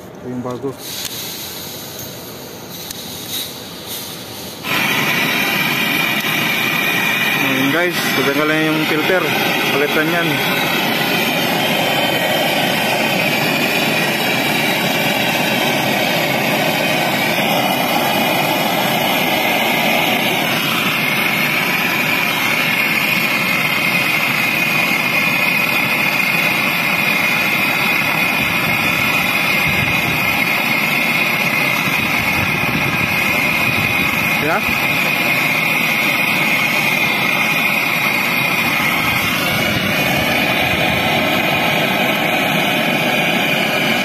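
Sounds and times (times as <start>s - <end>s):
gas torch flame burning: 0.0s - 44.0s.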